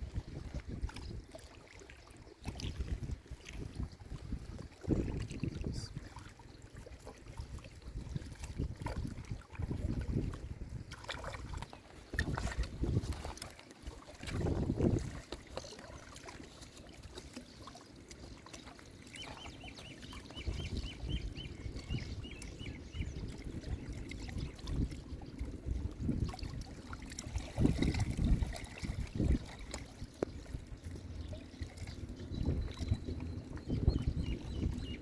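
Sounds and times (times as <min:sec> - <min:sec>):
river water trickling and lapping: 0:00.0 - 0:35.0.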